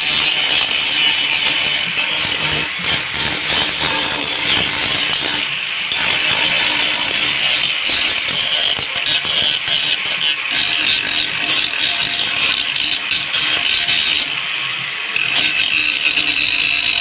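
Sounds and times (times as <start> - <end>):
power tool hissing: 0.0 - 17.0.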